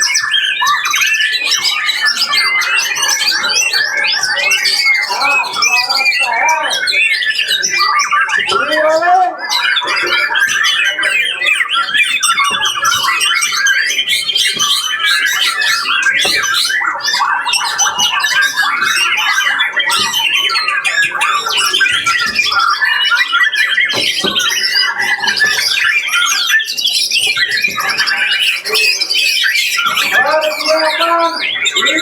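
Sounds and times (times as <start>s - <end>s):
caged songbirds singing: 0.0s - 32.0s.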